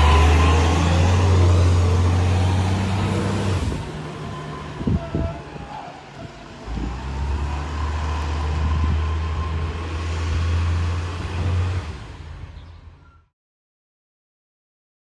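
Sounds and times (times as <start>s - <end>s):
diesel engine rumbling: 0.0s - 13.2s.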